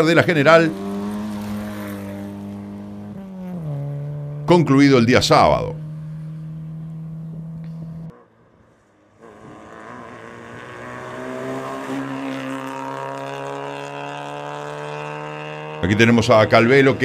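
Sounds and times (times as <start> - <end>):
distant engine drone: 0.0 - 17.0
rally car accelerating: 0.0 - 17.0.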